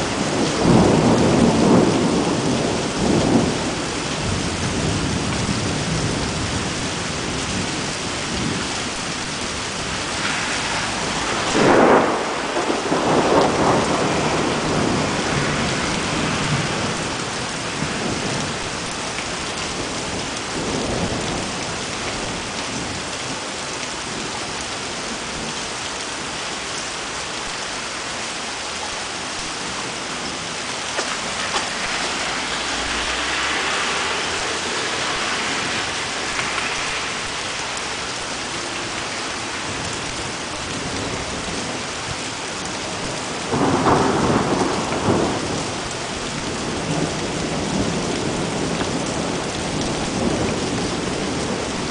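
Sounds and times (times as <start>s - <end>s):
thunder rumbling: 0.0s - 23.4s, 29.1s - 51.9s
steady rain: 0.0s - 51.9s.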